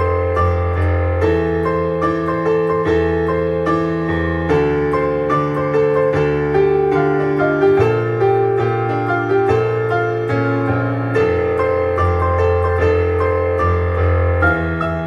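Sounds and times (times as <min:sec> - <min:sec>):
electric piano music: 0:00.0 - 0:15.0.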